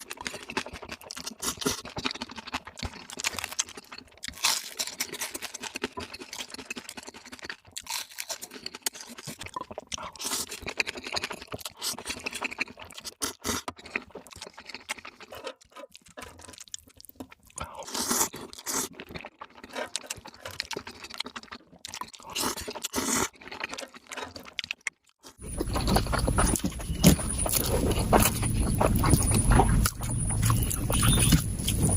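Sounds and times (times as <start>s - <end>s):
rapid chewing and crunching: 0.0s - 31.9s.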